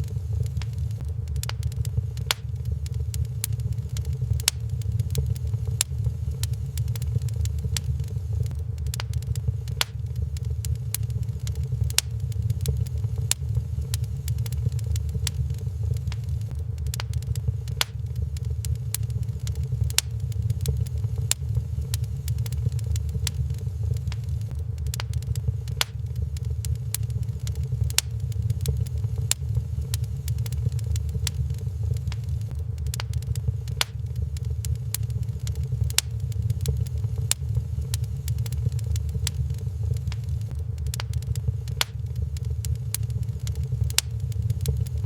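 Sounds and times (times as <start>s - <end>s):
low fire rumble: 0.0s - 45.0s
wood fire crackling and popping: 0.0s - 45.0s.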